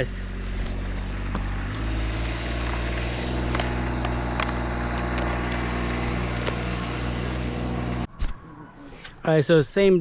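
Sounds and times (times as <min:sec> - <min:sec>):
engine running steadily: 0:00.0 - 0:08.1.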